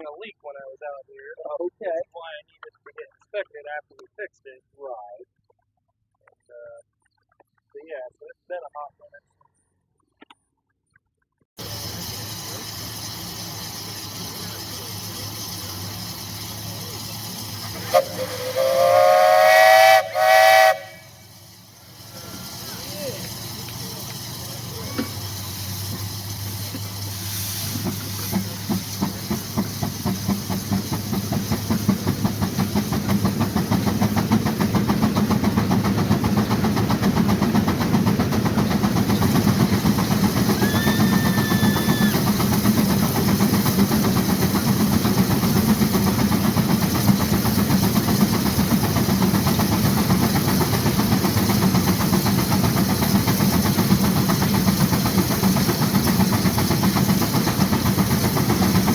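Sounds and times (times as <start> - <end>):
steam engine exhaust chuffing: 11.6 - 58.9.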